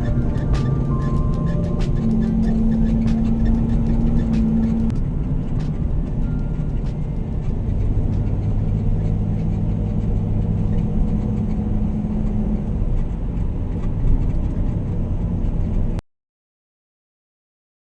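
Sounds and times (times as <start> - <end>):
low hum: 0.0 - 16.0
vehicle engine and road noise: 0.0 - 16.0.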